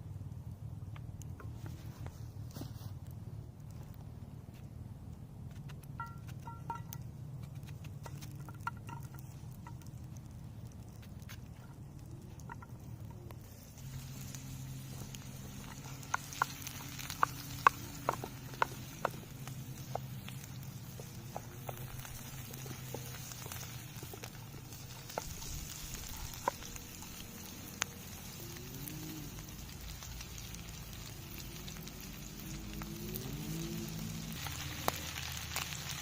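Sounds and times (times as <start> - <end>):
low steady hum: 0.0 - 36.0
campfire crackling and popping: 0.2 - 36.0.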